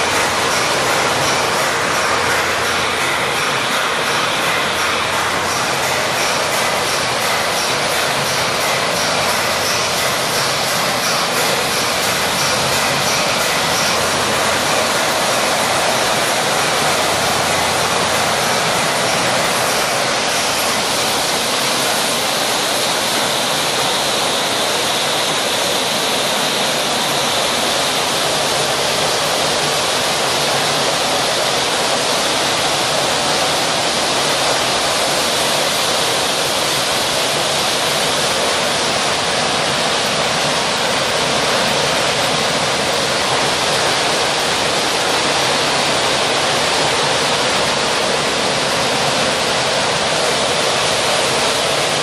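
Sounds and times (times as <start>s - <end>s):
ball mill rushing noise: 0.0s - 52.0s.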